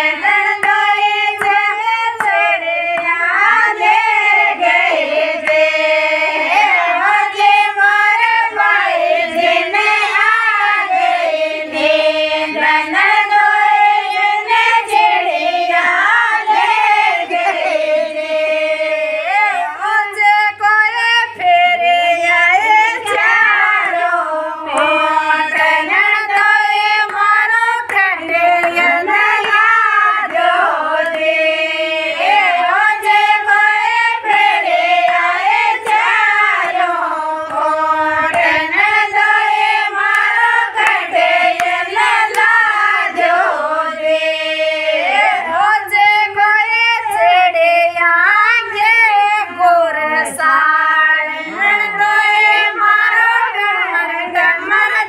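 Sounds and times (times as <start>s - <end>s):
group of women singing: 0.0s - 55.0s.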